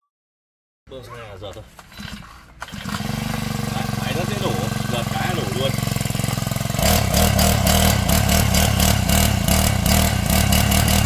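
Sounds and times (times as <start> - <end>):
rock drill engine revving: 1.9 - 11.0.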